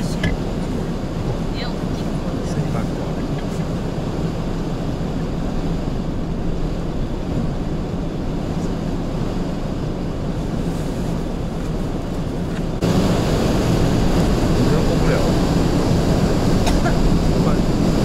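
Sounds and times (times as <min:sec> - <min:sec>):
snowplough truck rumble: 0:00.0 - 0:18.0
wind and vehicle rumble: 0:00.0 - 0:18.0.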